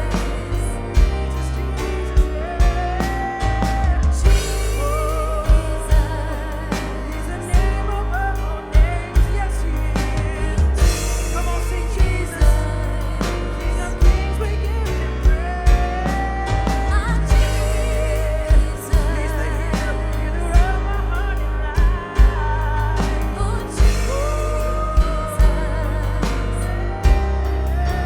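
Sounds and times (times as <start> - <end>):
bass line: 0.0 - 28.0
drum hits: 0.0 - 28.0
person singing with vibrato: 0.0 - 28.0.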